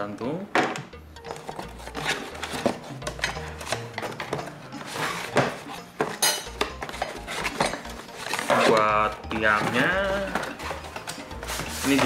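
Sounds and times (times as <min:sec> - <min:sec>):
faint background music: 0:00.0 - 0:12.0
cardboard rustle: 0:01.4 - 0:06.2, 0:06.8 - 0:12.0.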